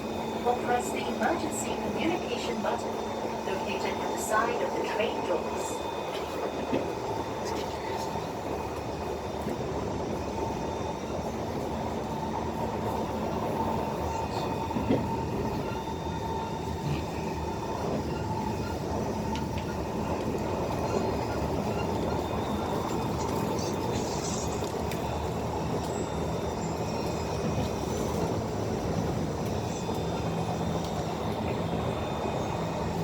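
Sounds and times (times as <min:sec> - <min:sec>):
thin steady whine: 0:00.0 - 0:33.0
train running rumble: 0:00.0 - 0:33.0.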